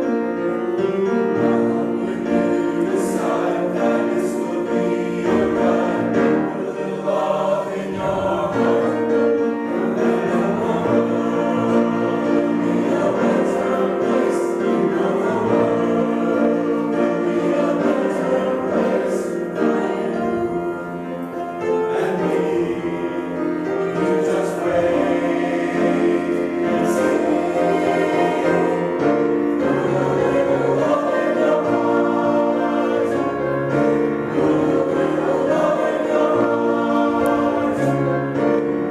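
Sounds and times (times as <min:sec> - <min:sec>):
voices singing in harmony: 0:00.0 - 0:38.9.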